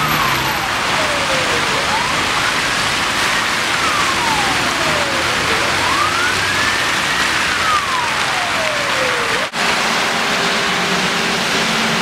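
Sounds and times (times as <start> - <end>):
emergency siren wailing: 0.0 - 12.0
heavy street traffic: 0.0 - 12.0.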